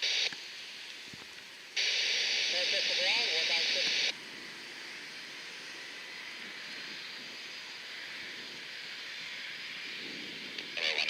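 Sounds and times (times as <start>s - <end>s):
jet engine hiss and whine: 0.0s - 11.0s.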